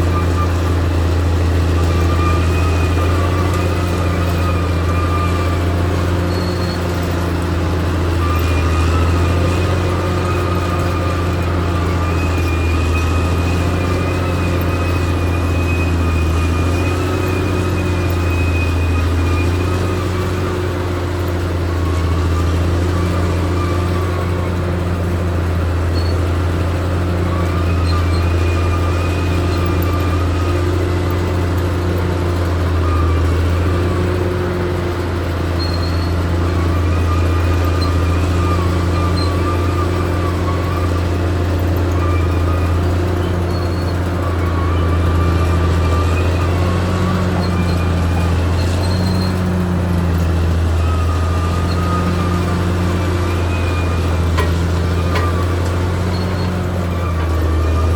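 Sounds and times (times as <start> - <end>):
diesel engine humming: 0.0 - 57.9.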